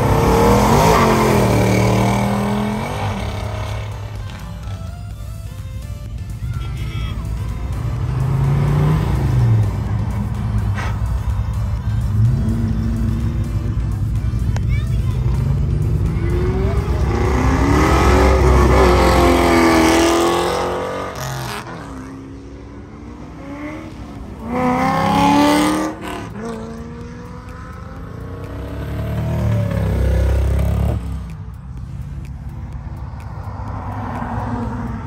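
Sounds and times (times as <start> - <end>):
cars accelerating past: 0.0 - 4.9, 7.2 - 35.0.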